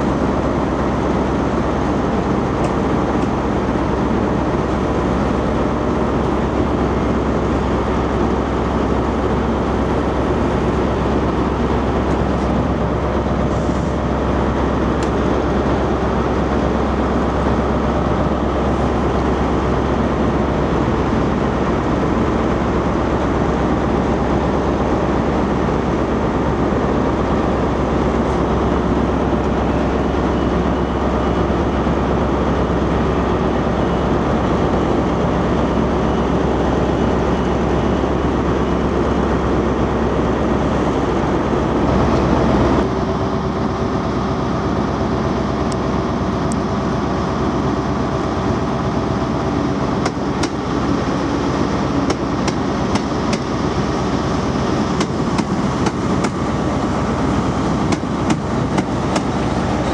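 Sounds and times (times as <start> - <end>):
passenger train rumbling past: 0.0 - 59.9.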